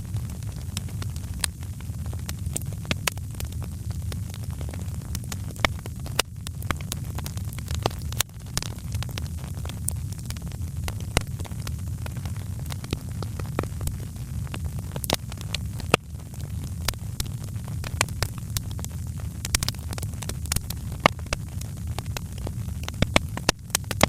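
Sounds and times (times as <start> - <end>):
sharp pops and snaps: 0.0 - 24.0
wood fire crackling: 0.0 - 24.0.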